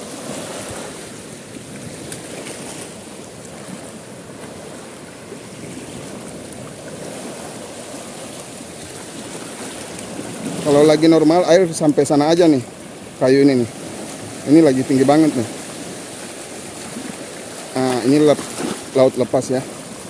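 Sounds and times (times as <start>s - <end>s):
small waves lapping through roots: 0.0s - 20.0s.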